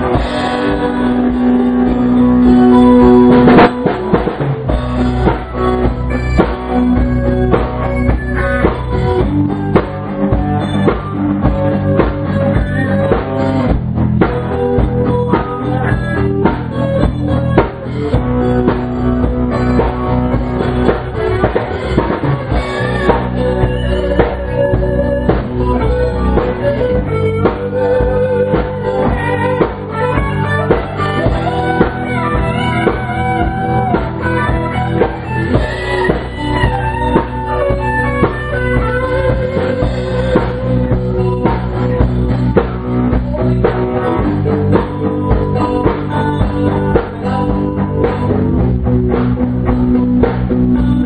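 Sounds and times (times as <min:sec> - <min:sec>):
drum kit: 0:00.0 - 0:51.0
guitars strumming: 0:00.0 - 0:51.0.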